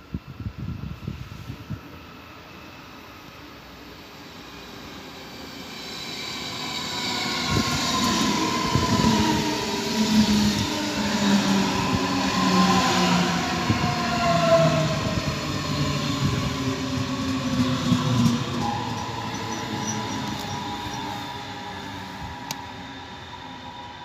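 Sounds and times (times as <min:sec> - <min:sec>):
train running past: 0:00.3 - 0:24.0
train whining tones: 0:01.3 - 0:24.0
wheel and rail noise: 0:02.0 - 0:24.0.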